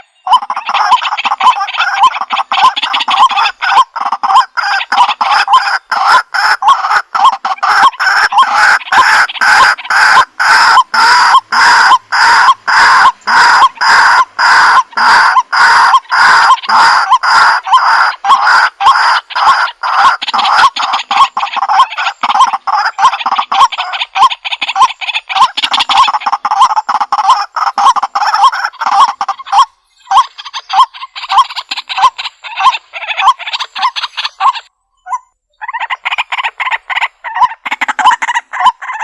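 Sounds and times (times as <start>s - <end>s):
bird harsh repeated call: 0.0s - 39.0s.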